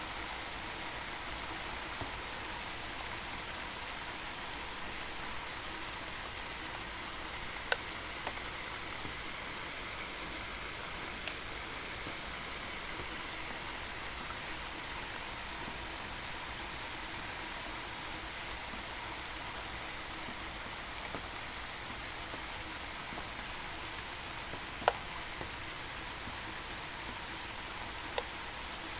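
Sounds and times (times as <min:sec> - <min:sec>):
steady rain: 0:00.0 - 0:28.9.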